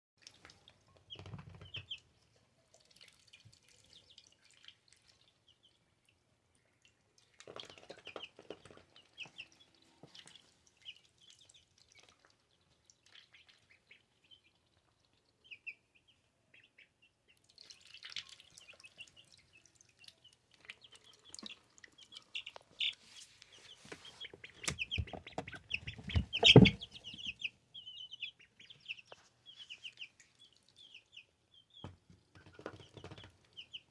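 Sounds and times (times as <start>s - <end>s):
ducklings peeping: 1.0s - 2.1s, 3.0s - 5.8s, 7.4s - 33.9s.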